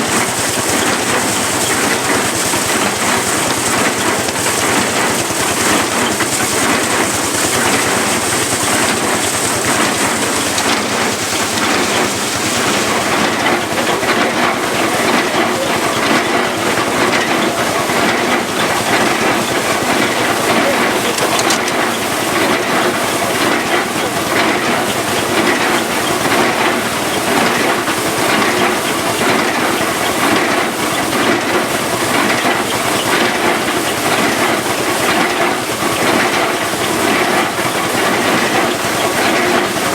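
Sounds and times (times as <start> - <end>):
threshing machine clattering: 0.0 - 39.9.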